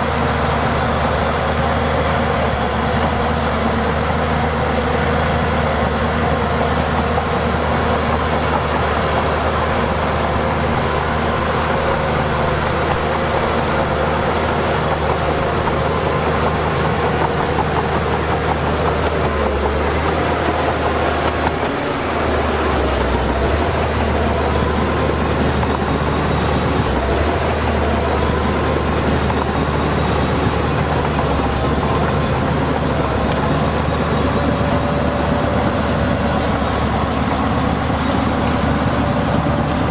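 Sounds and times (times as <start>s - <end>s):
heavy diesel engine drone: 0.0s - 39.9s
machinery whining: 0.0s - 39.9s.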